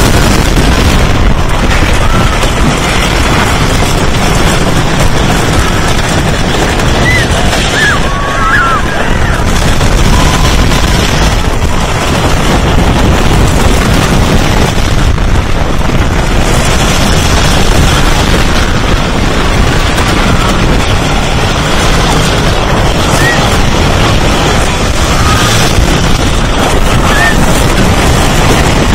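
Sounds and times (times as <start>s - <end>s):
roller coaster rumbling on track: 0.0s - 28.9s.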